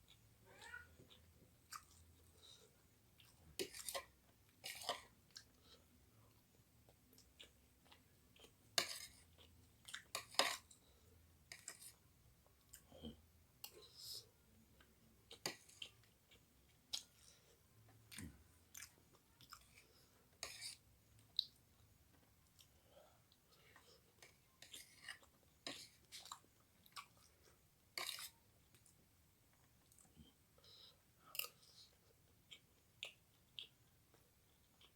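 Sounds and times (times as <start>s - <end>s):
person chewing food: 1.0s - 34.9s.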